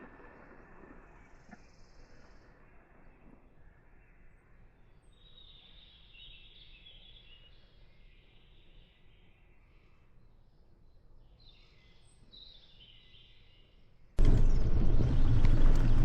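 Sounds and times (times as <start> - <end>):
faint bird chirping: 0.2 - 15.8.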